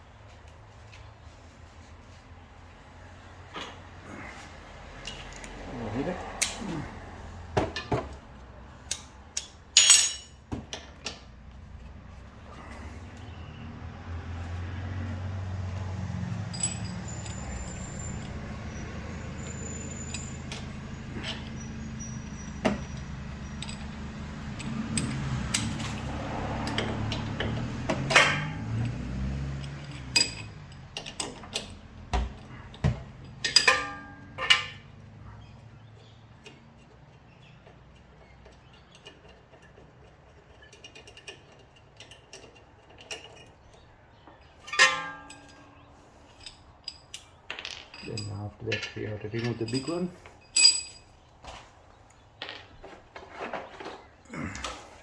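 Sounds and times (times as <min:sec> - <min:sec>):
tools and steel parts clanking: 0:03.5 - 0:13.7, 0:14.4 - 0:55.0.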